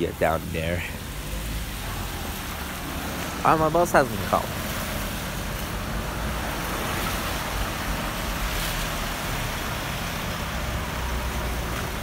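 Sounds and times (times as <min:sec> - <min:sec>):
tyres hissing on wet road: 0:00.0 - 0:12.0.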